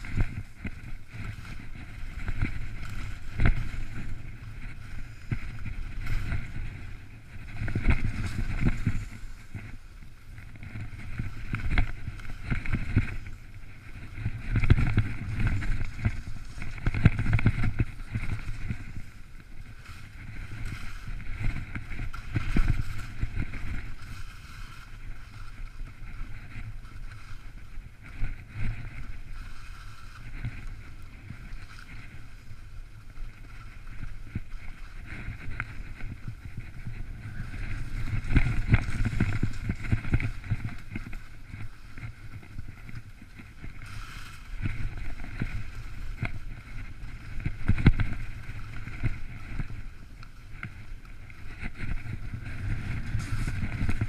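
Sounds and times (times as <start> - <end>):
skis knocking and clattering: 0.0 - 54.0
skis scraping over snow crust: 0.0 - 54.0
wind buffeting microphone: 0.0 - 54.0.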